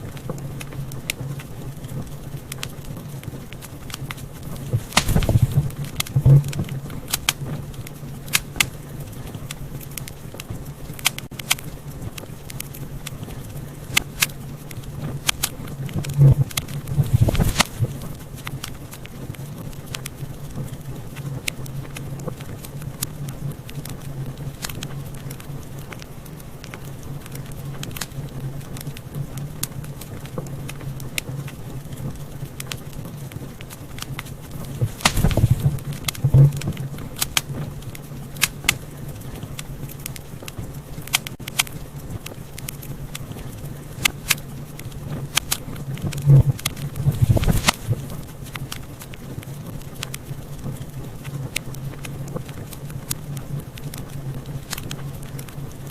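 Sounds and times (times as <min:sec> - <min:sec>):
low rumble of flames: 0:00.0 - 0:55.9
wood fire crackling and popping: 0:00.0 - 0:55.9.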